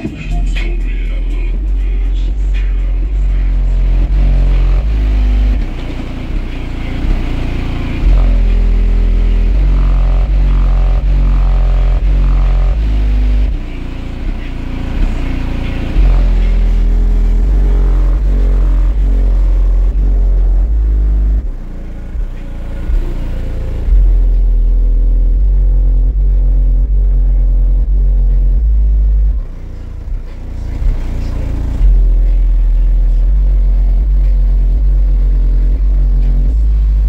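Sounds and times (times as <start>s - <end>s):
bass-heavy music from subwoofers: 0.0s - 37.0s.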